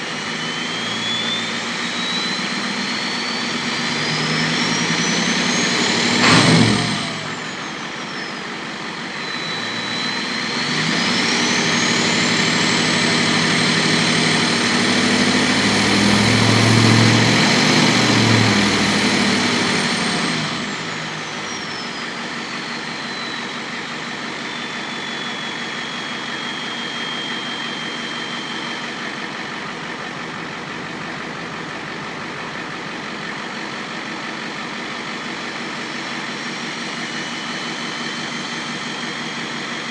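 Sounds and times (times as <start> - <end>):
diesel engine revving: 0.0 - 39.9
turbo whistle: 0.1 - 8.5, 9.1 - 29.6, 36.0 - 39.9.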